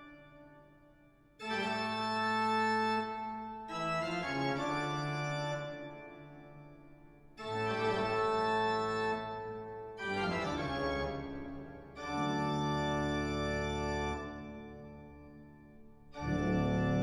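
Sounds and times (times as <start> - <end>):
slow organ chords: 1.4 - 6.8, 7.4 - 17.0.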